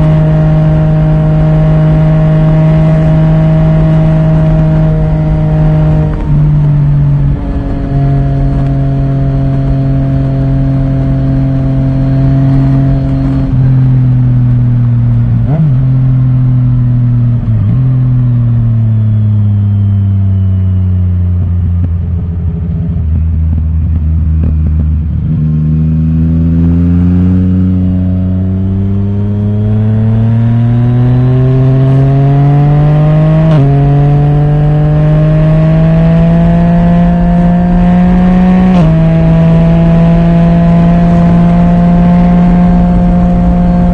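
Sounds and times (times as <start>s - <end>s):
motorcycle engine riding: 0.0s - 43.9s.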